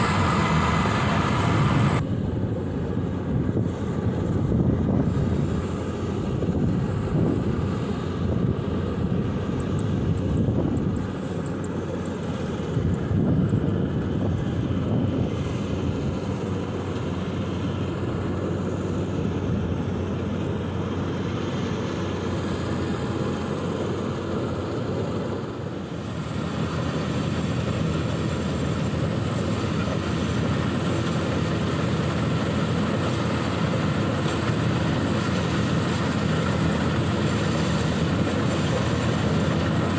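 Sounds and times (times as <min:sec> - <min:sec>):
combine harvester diesel engine: 0:00.0 - 0:39.9
threshing machinery whirring: 0:00.0 - 0:39.9.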